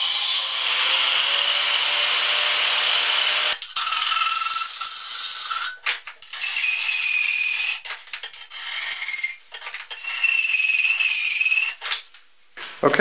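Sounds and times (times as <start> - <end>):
hacksaw cutting metal: 0.0 - 12.1.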